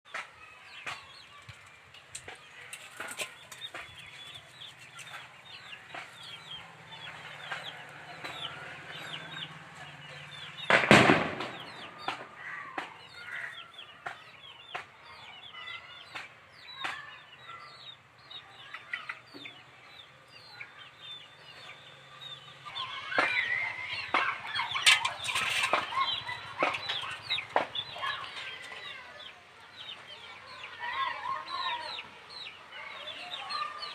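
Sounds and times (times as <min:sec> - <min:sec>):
chickens clucking: 0:00.1 - 0:33.9.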